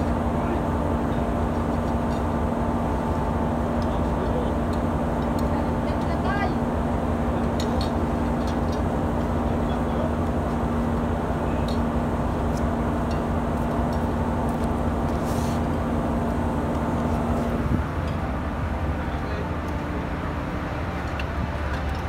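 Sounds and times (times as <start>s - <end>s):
ship machinery drone: 0.0s - 22.0s.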